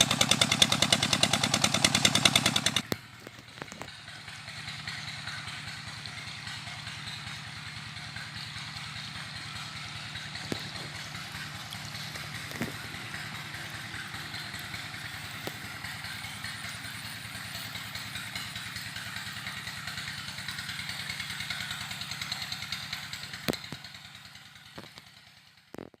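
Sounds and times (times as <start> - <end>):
small pump engine running: 0.0 - 26.0.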